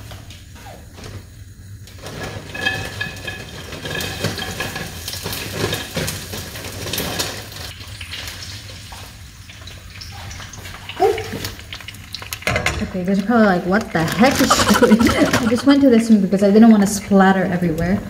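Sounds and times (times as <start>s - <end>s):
fries sizzling in hot oil: 1.5s - 17.0s.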